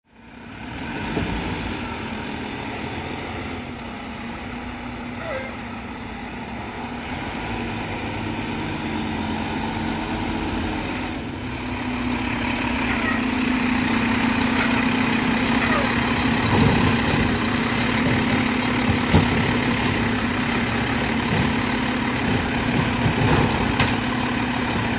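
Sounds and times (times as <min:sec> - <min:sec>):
garbage truck engine running: 0:00.1 - 0:24.9.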